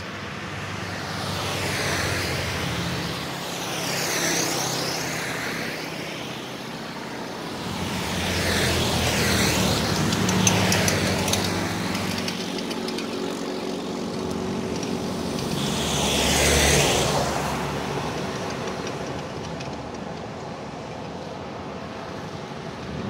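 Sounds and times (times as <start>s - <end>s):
distant traffic: 0.0s - 23.0s
motorcycle passing: 0.6s - 19.1s.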